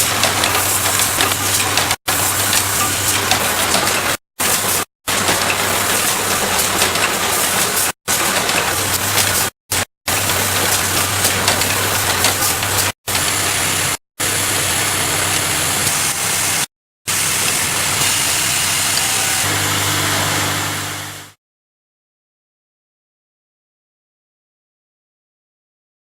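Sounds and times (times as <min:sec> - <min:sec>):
production machinery running: 0:00.0 - 0:21.4.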